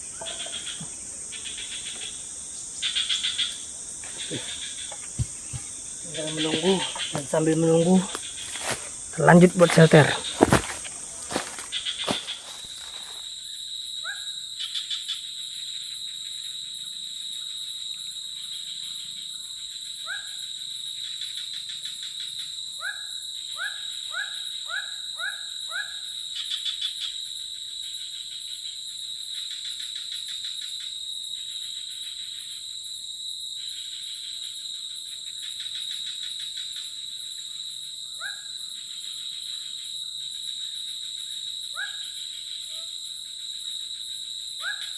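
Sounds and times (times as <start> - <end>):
high insect drone: 0.0 - 44.9
pulsing insect calls: 0.0 - 44.9.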